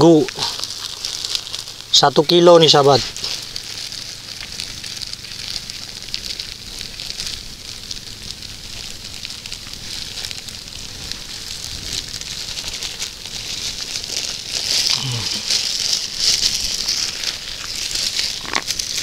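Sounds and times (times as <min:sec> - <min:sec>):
plastic bag rustling and crinkling: 0:00.0 - 0:19.0.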